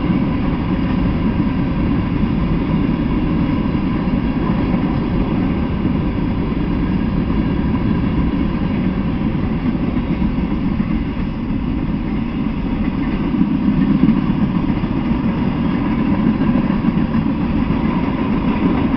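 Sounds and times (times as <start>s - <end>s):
freight train wheels rumbling on track: 0.0s - 18.9s.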